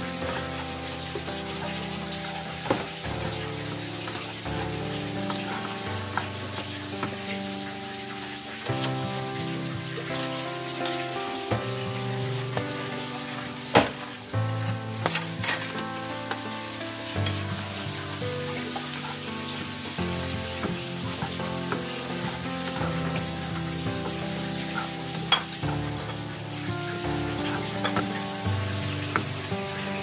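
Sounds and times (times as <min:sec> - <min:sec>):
background music: 0:00.0 - 0:30.0
food sizzling in a frying pan: 0:00.0 - 0:30.0.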